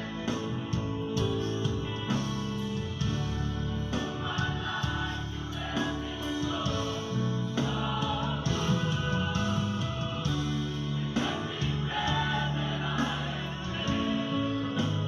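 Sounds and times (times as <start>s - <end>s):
choir singing gospel song: 0.0s - 15.0s
instrumental backing: 0.0s - 15.0s.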